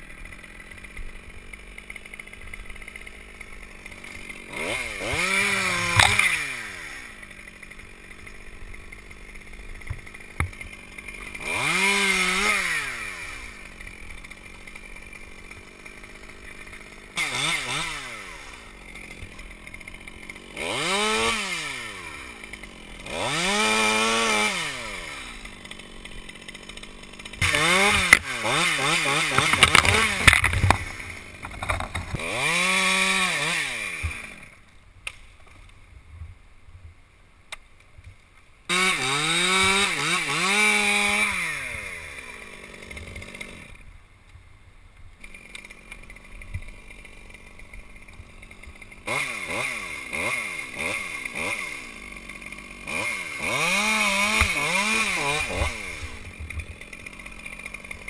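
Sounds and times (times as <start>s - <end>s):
chainsaw revving and cutting: 0.0s - 34.7s, 38.7s - 43.9s, 45.2s - 58.0s.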